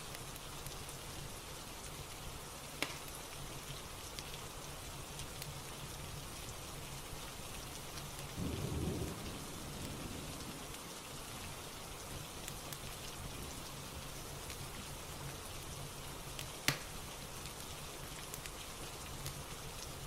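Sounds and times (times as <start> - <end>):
fire crackling: 0.0 - 20.0
steady rain: 0.0 - 20.0.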